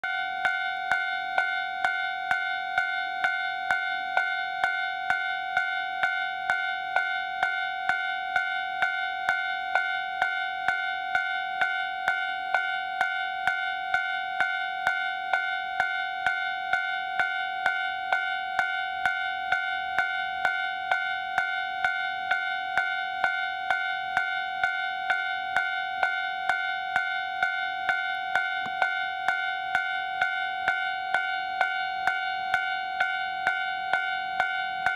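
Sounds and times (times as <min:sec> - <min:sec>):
level crossing warning bell: 0:00.0 - 0:34.9.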